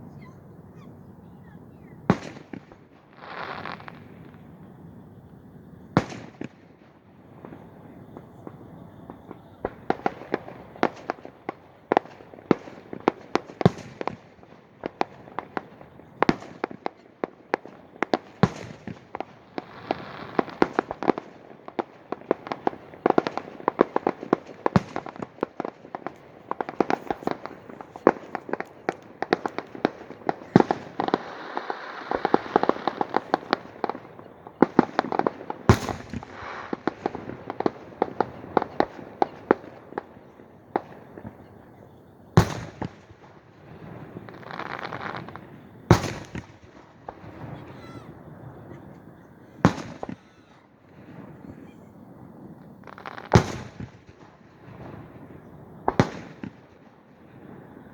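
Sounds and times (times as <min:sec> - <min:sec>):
fireworks banging and crackling: 0:00.0 - 0:57.9.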